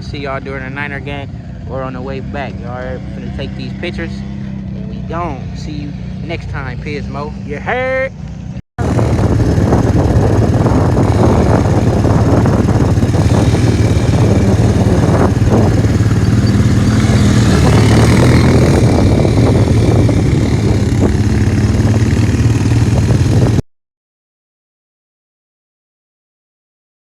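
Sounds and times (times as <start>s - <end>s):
atv engine running: 0.0s - 23.6s.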